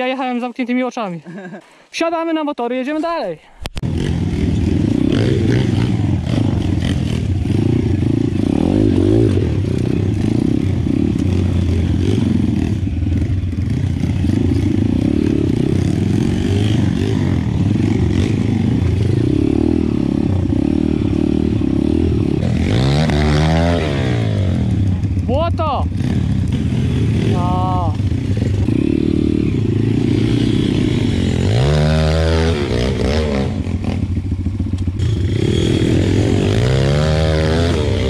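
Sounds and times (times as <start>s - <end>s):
motorbike engine revving: 3.8s - 38.0s.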